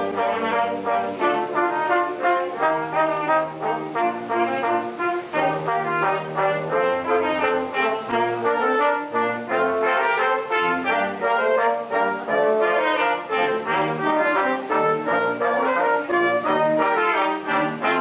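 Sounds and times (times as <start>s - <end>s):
brass quintet playing: 0.0s - 18.0s
tuba bass line: 0.0s - 18.0s.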